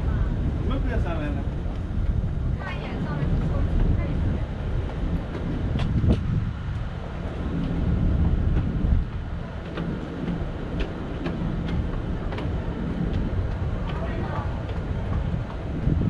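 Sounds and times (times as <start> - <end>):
low outdoor drone: 0.0 - 16.0
wind rumbling on microphone: 0.0 - 16.0.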